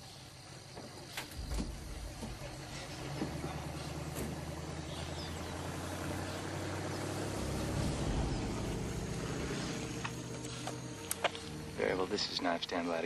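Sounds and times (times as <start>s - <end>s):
truck engine running: 1.3s - 13.0s.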